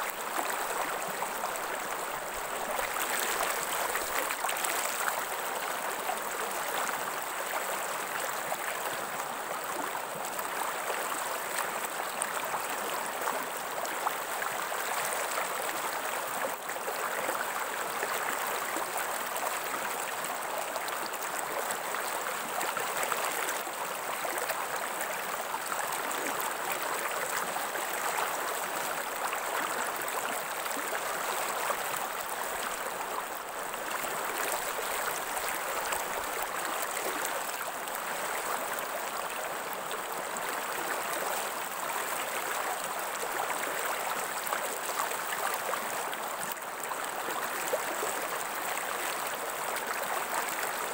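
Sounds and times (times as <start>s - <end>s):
stream water running: 0.0s - 50.9s.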